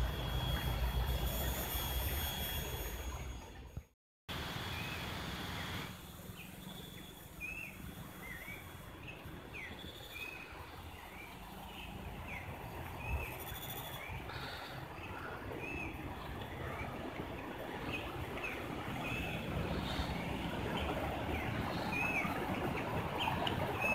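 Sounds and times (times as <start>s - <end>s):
steady outdoor hiss: 4.3s - 23.9s.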